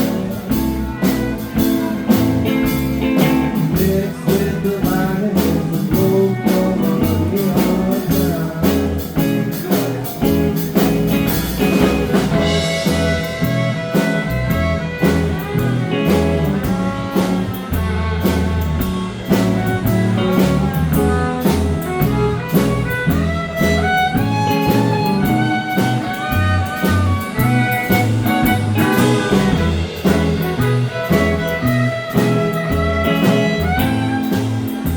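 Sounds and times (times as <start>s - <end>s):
live country blues band: 0.0s - 34.9s.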